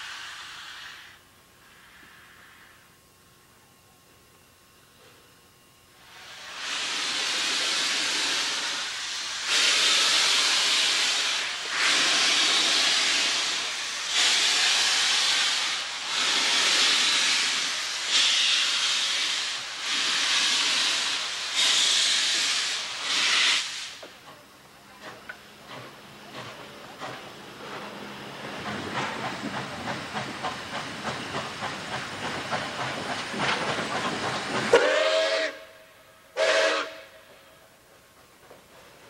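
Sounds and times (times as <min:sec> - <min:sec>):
steam locomotive hissing steam: 0:00.0 - 0:03.1, 0:05.9 - 0:39.0.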